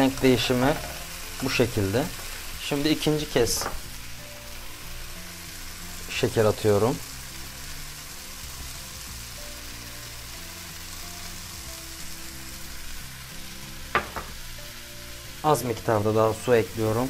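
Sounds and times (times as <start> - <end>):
onions sizzling in a pan: 0.0 - 17.0
soft background music: 0.0 - 17.0.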